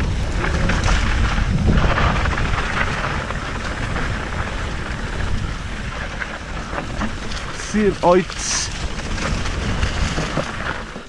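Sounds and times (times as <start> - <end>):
bike tyres crunching on dirt: 0.0 - 11.0
wind rumbling on microphone: 0.0 - 11.0.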